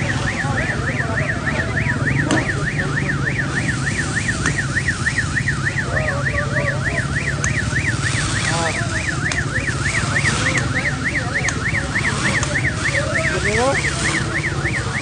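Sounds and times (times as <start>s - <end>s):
electronic siren warbling: 0.0s - 15.0s.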